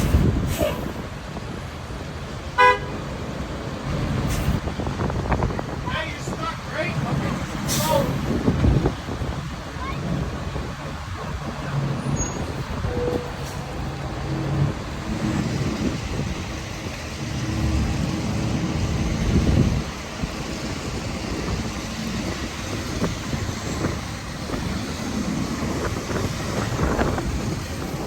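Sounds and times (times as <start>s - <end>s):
wind buffeting microphone: 0.0s - 2.5s, 3.2s - 28.0s
heavy vehicle engine rumble: 0.0s - 28.0s.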